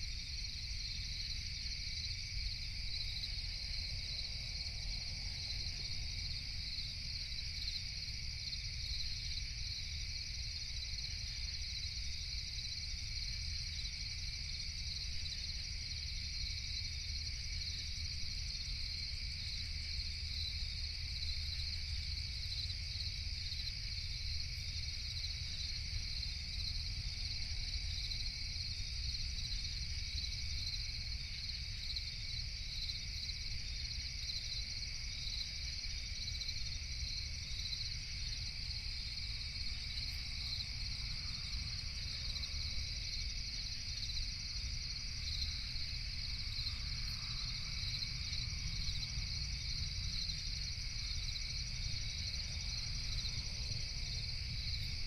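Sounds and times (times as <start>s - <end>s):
crickets chirring: 0.0s - 55.0s.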